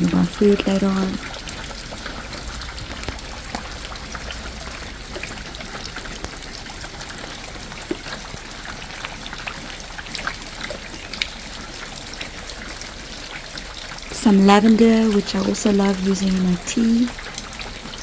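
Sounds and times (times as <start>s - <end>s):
drips striking close by: 0.0s - 18.0s
steady rain falling: 0.0s - 18.0s.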